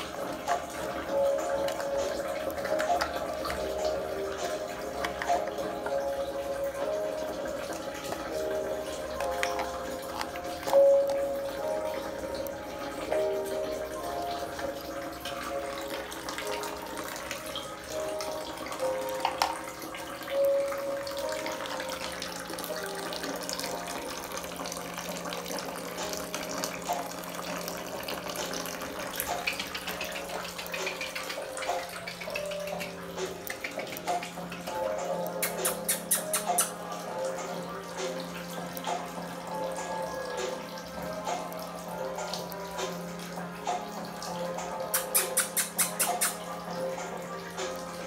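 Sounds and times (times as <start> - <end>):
background music: 0.0 - 48.0
clicks and splashes: 0.0 - 48.0
water running: 0.0 - 48.0.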